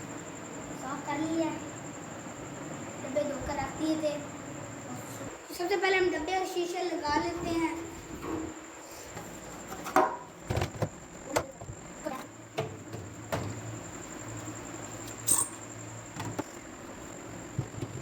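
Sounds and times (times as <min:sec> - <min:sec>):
faint high whine: 0:00.0 - 0:18.0.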